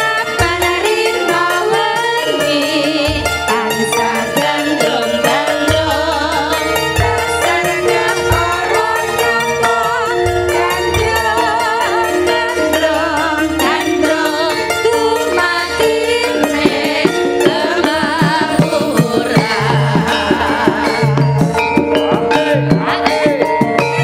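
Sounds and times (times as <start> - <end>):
gamelan accompaniment: 0.0 - 24.0
hand drum strokes: 0.0 - 24.0
woman singing with vibrato: 0.0 - 24.0.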